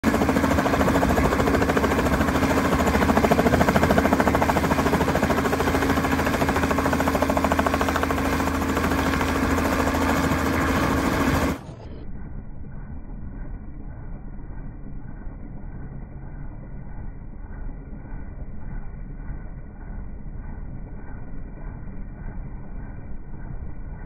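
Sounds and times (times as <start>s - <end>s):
helicopter hovering: 0.0s - 24.0s.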